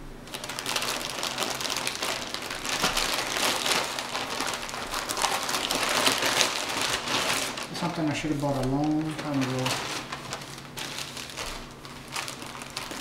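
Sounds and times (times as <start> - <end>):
plastic bag tearing and crinkling: 0.3 - 13.0.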